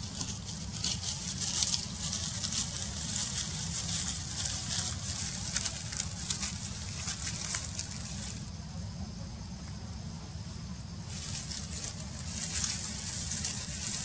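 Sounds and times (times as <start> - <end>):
dry leaves and straw crackling: 0.0 - 8.9, 10.8 - 14.0
low steady rumble: 0.0 - 14.0.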